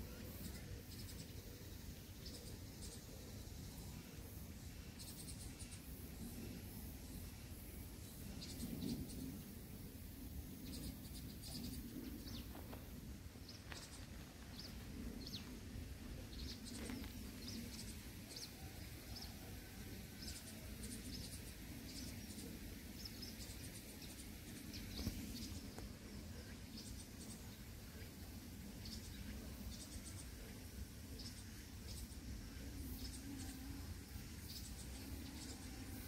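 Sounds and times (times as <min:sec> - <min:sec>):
low steady hum: 0:00.0 - 0:36.0
small birds chirping: 0:00.0 - 0:36.0.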